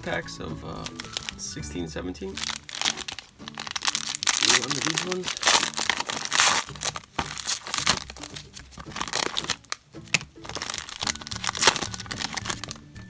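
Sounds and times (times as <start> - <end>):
card pack wrapper tearing: 0.8 - 1.4, 2.3 - 12.8.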